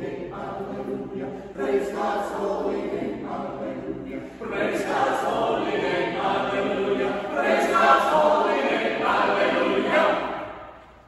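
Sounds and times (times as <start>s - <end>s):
church choir singing: 0.0s - 11.0s.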